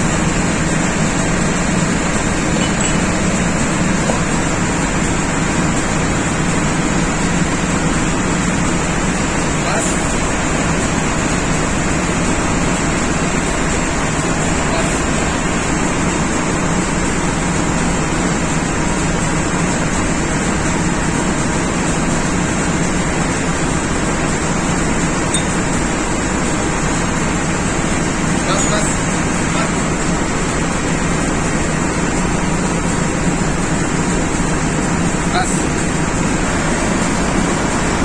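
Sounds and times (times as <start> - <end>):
machinery hum and hiss: 0.0 - 38.0.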